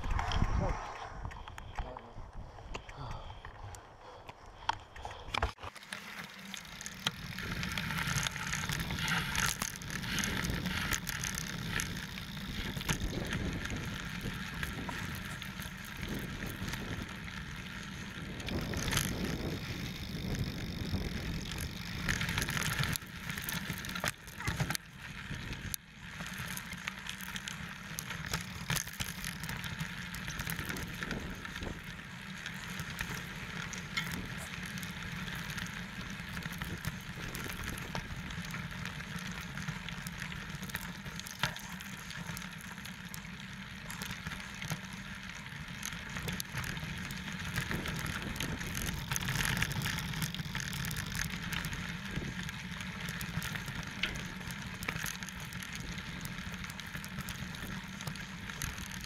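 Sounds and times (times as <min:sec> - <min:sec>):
bike tyres on rocky trail: 0:00.0 - 0:59.0
bike clicks and rattles: 0:01.3 - 0:59.0.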